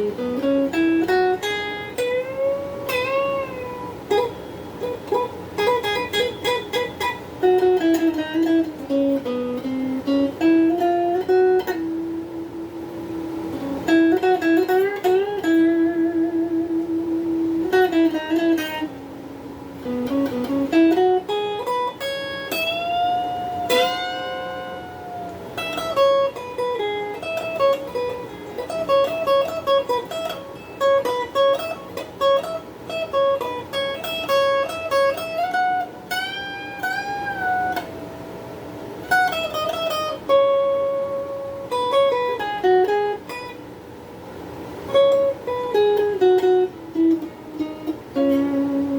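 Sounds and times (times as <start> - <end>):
electric guitar lead melody: 0.0 - 48.9.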